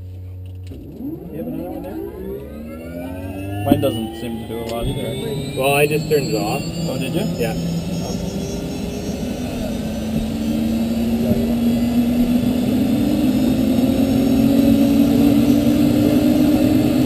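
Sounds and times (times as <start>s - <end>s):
helicopter engine and rotor whine: 0.4s - 17.0s.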